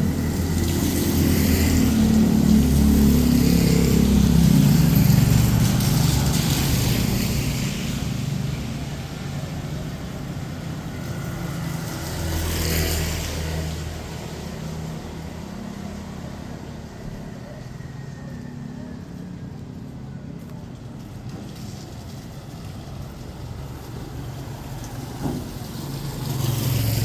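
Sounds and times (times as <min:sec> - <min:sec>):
vehicles passing on wet street: 0:00.0 - 0:27.0.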